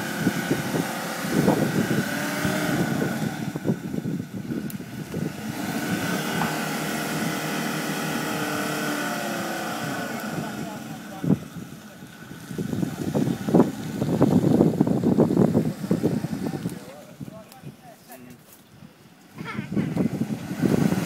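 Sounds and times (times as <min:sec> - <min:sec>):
engine revving in mud: 0:00.0 - 0:17.1, 0:19.6 - 0:21.0.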